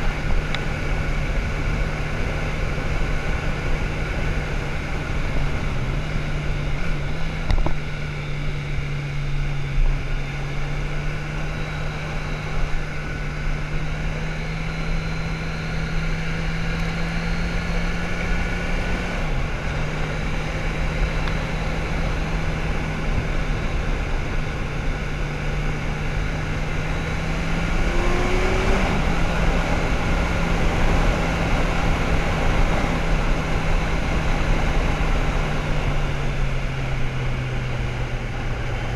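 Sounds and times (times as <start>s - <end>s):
motorcycle engine cruising: 0.0s - 38.9s
rushing wind: 0.0s - 38.9s.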